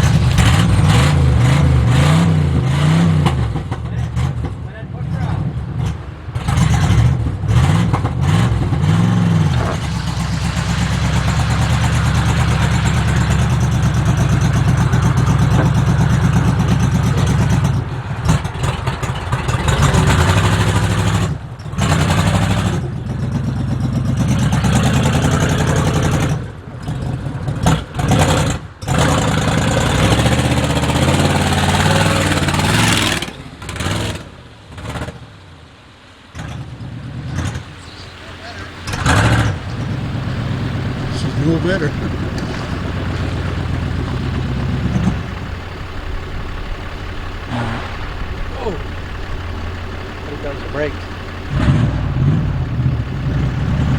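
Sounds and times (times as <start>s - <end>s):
engine running and revving: 0.0s - 35.4s, 36.3s - 53.9s.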